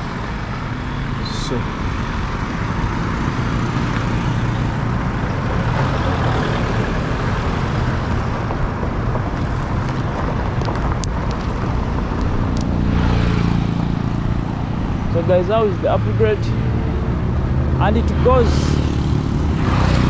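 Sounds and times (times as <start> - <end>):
vehicle road noise rumble: 0.0 - 20.0.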